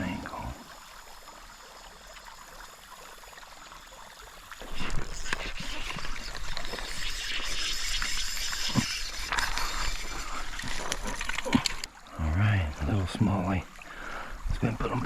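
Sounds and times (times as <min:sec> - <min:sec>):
faint creek water: 0:00.0 - 0:15.0
water splashing and sloshing: 0:00.0 - 0:15.0.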